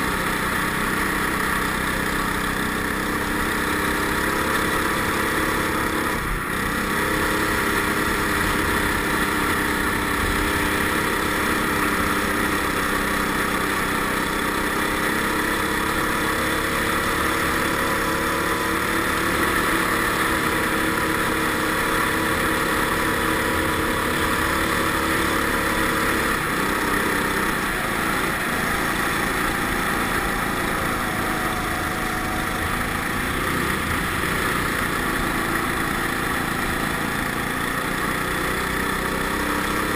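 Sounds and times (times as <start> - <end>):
go-kart engine at high revs: 0.0 - 39.9.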